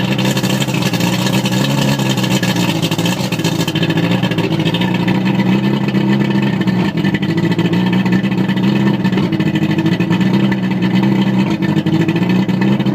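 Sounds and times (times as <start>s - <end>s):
outboard motor running: 0.0s - 12.9s.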